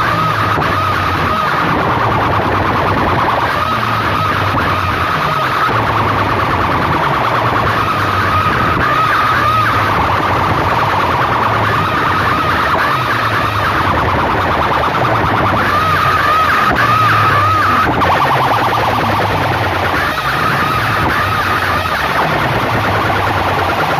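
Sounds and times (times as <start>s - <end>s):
pulsing bass beat: 0.0s - 23.9s
warbling siren-like tone: 0.0s - 23.9s.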